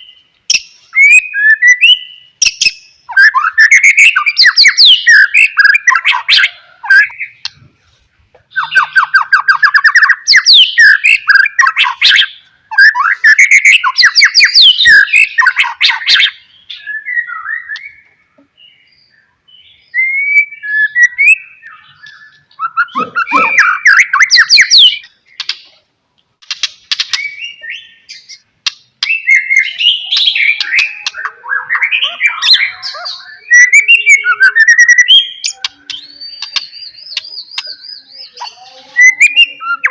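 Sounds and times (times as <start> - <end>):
bird singing whistles and trills: 0.0 - 7.5, 8.5 - 25.5, 26.9 - 39.9.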